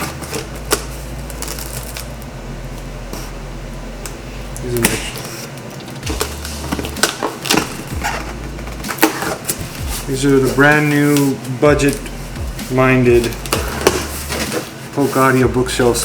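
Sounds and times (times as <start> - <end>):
cardboard rustling and scraping: 0.0 - 2.2, 4.6 - 16.0
low hum: 0.0 - 16.0.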